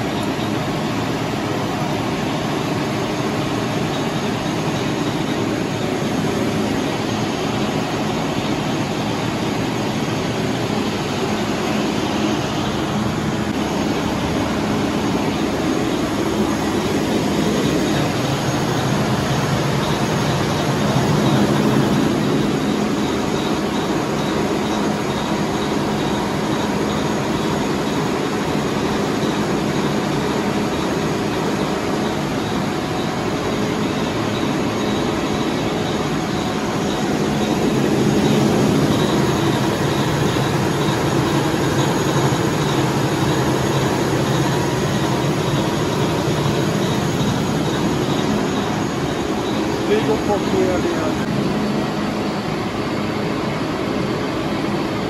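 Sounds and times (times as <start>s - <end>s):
water chiller machinery drone: 0.0s - 55.0s.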